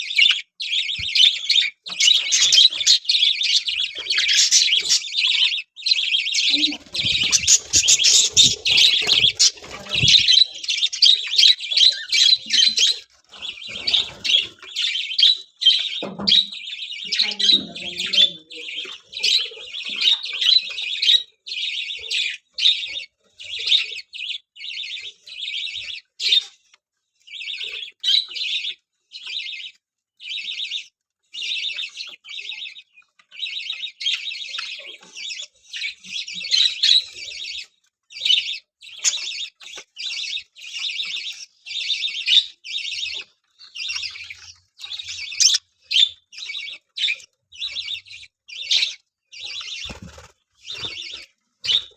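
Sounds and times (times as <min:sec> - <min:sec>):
budgerigars chattering: 0:00.0 - 0:26.5, 0:27.3 - 0:51.9.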